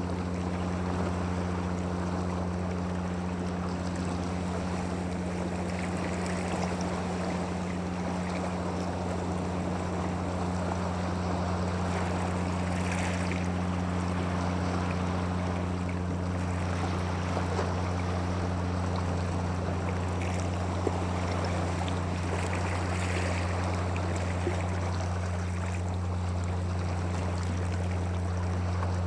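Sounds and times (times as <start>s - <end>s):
motor humming: 0.0s - 29.0s.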